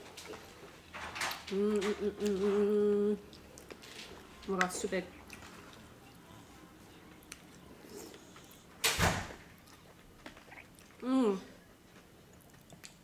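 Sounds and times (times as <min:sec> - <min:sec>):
faint chewing: 0:00.0 - 0:08.8, 0:09.4 - 0:13.0.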